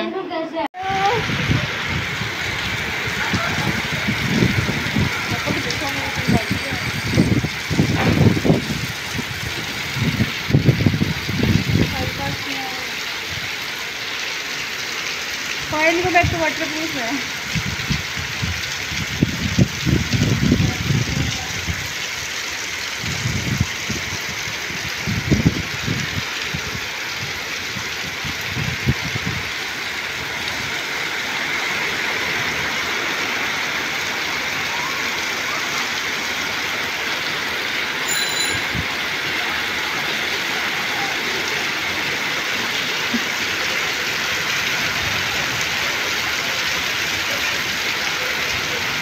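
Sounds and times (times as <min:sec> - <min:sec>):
heavy rain on pavement and roofs: 0:00.0 - 0:49.0.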